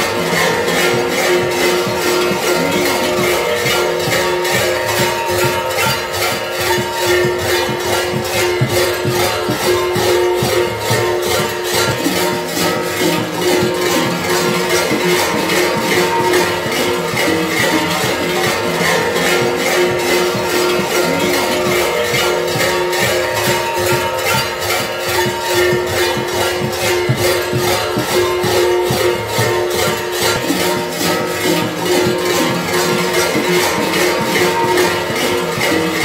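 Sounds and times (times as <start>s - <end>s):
large metal bells clanging: 0.0s - 36.0s.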